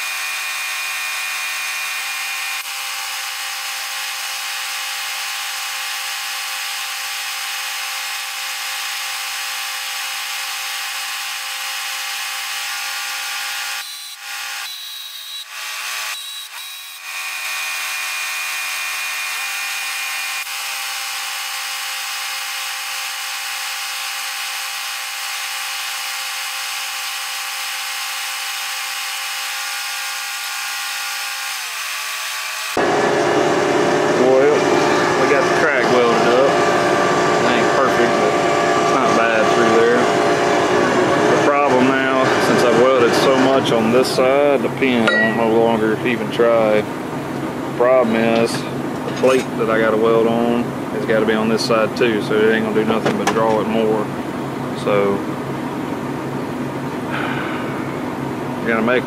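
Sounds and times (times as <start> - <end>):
air die grinder whining: 0.0 - 50.7.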